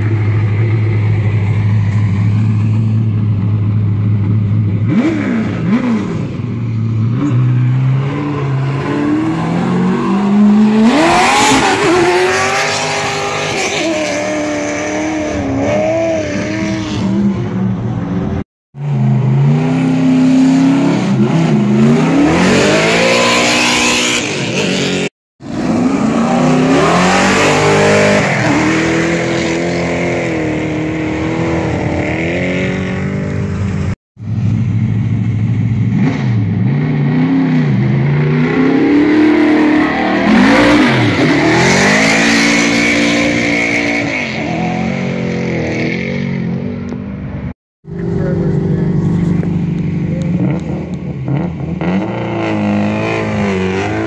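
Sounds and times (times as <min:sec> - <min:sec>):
race car engine revving: 0:04.3 - 0:33.6, 0:35.8 - 0:46.9, 0:47.9 - 0:54.0.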